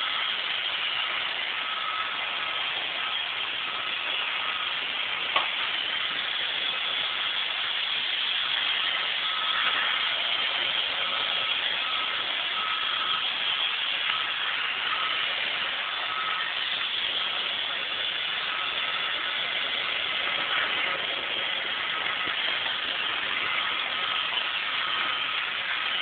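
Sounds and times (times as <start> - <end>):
faint whine: 0.0 - 26.0
robot vacuum whirring: 0.0 - 26.0.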